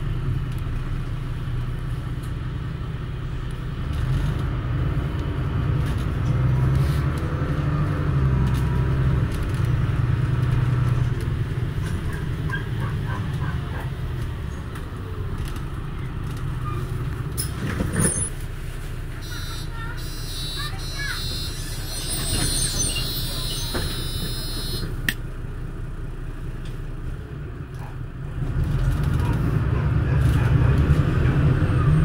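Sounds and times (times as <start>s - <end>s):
bus diesel engine rumble: 0.0s - 32.0s
faint whine of slowing bus: 0.0s - 32.0s.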